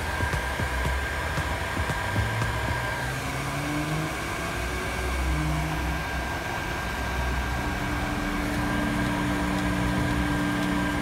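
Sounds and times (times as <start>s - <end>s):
fan motor whine: 0.0s - 11.0s
heat gun fan blowing: 0.0s - 11.0s.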